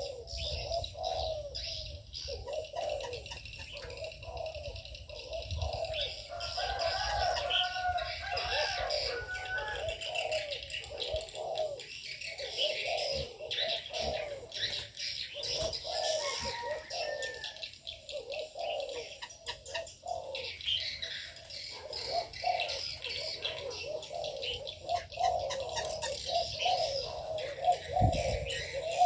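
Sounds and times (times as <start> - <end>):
doves cooing: 0.0 - 29.0
small birds chirping: 0.0 - 29.0.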